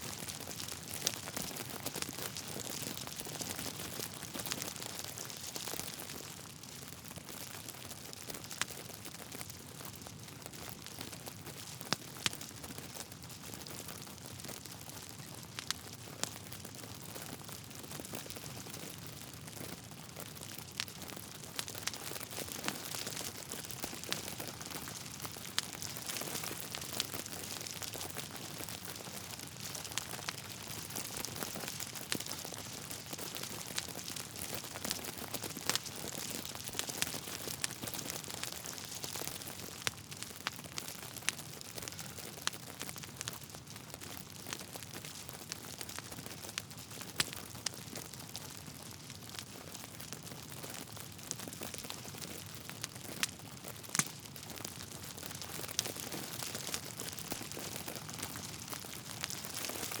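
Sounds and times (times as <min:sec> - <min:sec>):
logs crackling in fireplace: 0:00.1 - 1:00.0.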